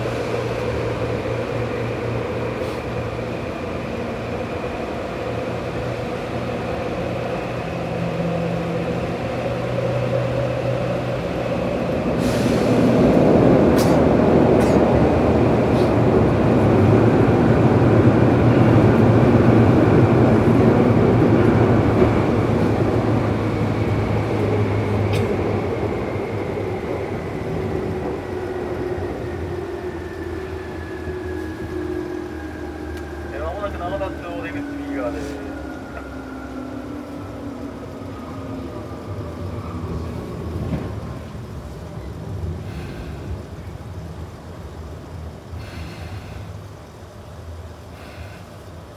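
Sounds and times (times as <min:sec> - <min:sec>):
steady train tone: 0:00.0 - 0:48.9
train wheels rumbling on rail: 0:00.0 - 0:48.9.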